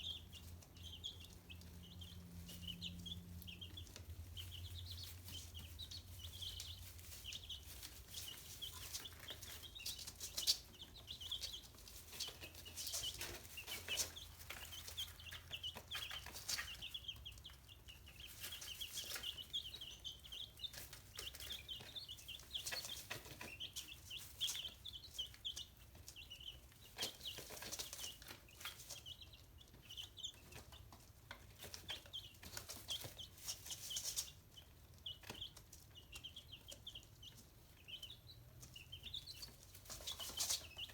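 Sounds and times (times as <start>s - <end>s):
chicks cheeping: 0.0s - 40.9s
chicks pecking and scratching: 0.0s - 40.9s.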